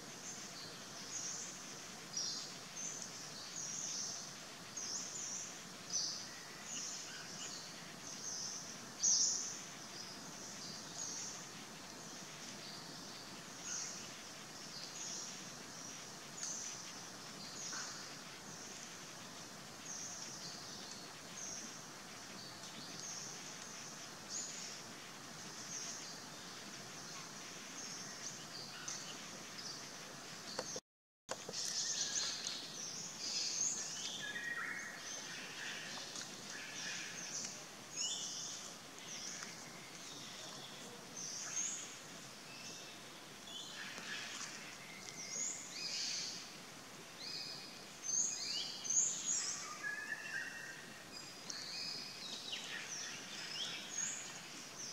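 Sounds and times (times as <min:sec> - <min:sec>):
faint background hiss: 0:00.0 - 0:54.9.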